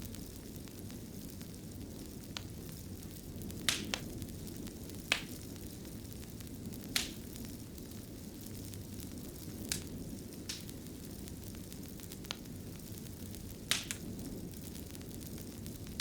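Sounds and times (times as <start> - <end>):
fire pops and crackles: 0.0 - 16.0
wood fire rumbling: 0.0 - 16.0.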